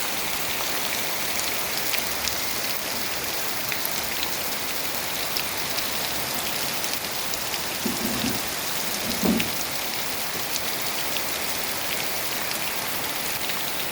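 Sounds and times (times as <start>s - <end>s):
heavy rain: 0.0s - 13.9s
raindrops ticking: 0.2s - 13.9s.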